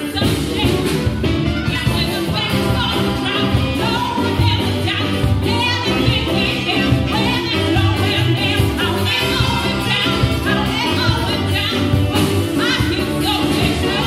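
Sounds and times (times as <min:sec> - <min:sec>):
live band playing: 0:00.0 - 0:14.0
woman singing: 0:00.0 - 0:14.0.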